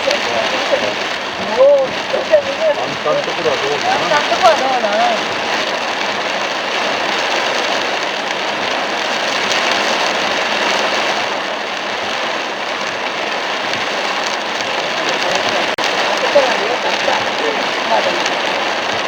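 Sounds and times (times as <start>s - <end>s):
heavy rain on car body: 0.0s - 19.0s
tyres hissing on wet road: 0.0s - 19.0s.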